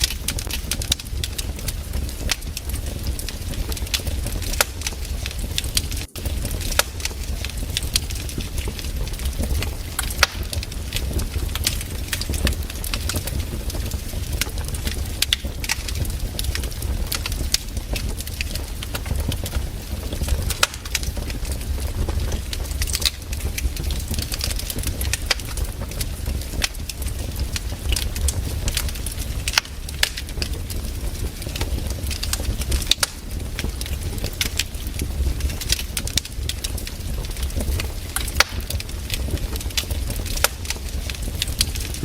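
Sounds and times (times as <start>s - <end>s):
campfire crackling and popping: 0.0s - 42.0s
low fire rumble: 0.0s - 42.0s.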